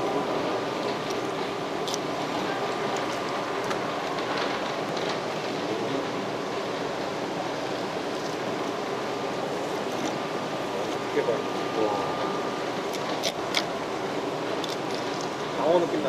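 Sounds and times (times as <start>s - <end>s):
faint high hum: 0.0s - 16.0s
steady rushing background noise: 0.0s - 16.0s.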